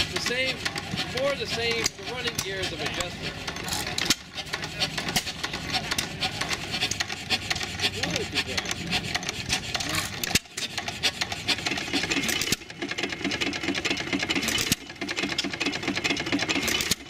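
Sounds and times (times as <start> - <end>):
stationary engines clattering: 0.0 - 17.0.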